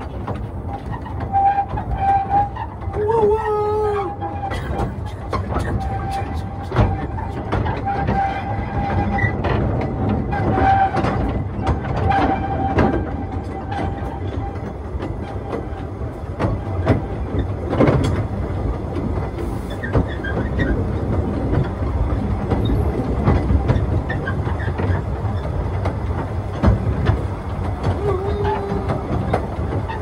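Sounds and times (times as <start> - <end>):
railway carriage rumble: 0.0 - 30.0
wheels clicking over rail joints: 0.0 - 30.0.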